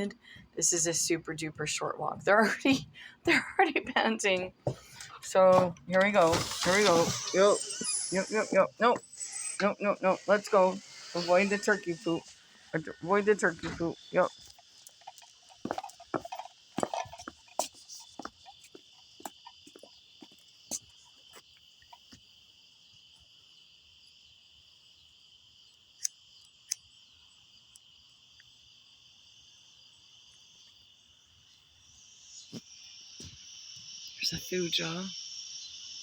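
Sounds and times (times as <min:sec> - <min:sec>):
night insects buzzing: 0:00.0 - 0:36.0.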